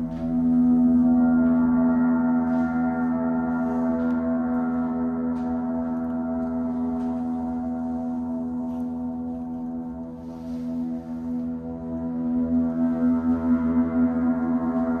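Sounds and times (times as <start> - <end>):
gongs ringing: 0.0 - 15.0
singing bowls ringing: 0.0 - 15.0.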